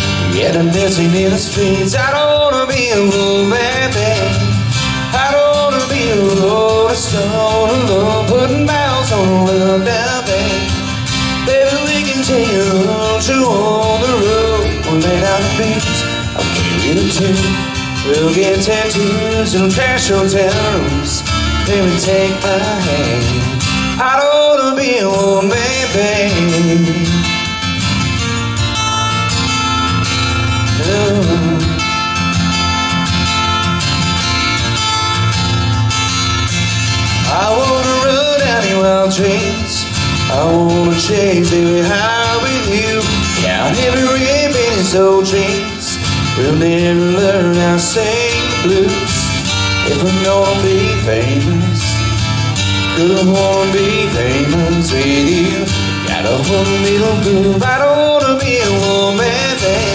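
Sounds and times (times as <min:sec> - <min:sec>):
man singing: 0:00.0 - 0:27.7, 0:30.4 - 0:32.4, 0:36.8 - 0:59.9
strummed acoustic guitar: 0:00.0 - 0:59.9.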